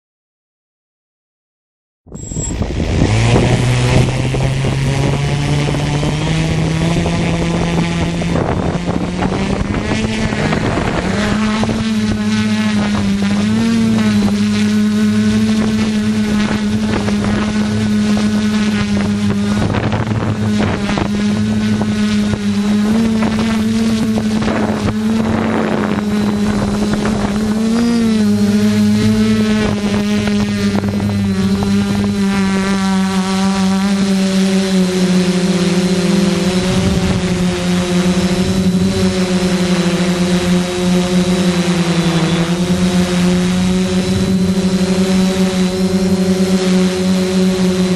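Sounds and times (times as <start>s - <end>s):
drone propellers humming: 2.1s - 47.9s
wind buffeting microphone: 2.1s - 47.9s.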